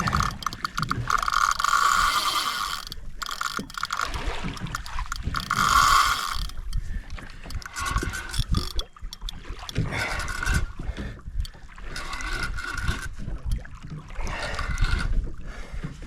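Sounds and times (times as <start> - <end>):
fishing reel drag buzzing: 0.0 - 13.2.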